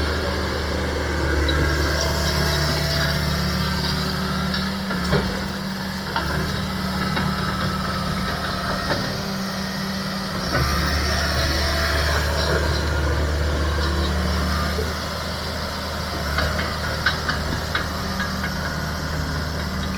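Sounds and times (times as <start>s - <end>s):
engine idling with low hum: 0.0s - 19.9s.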